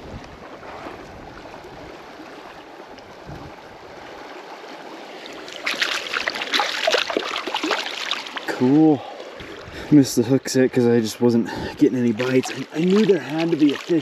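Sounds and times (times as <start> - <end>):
water splashing: 0.0 - 9.7, 11.5 - 14.0
river water running: 0.0 - 14.0.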